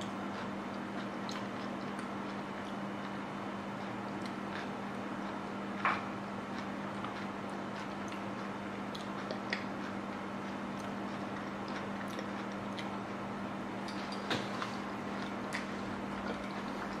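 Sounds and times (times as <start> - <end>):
chewing: 0.0 - 13.3, 13.9 - 17.0
steady low hum: 0.0 - 17.0.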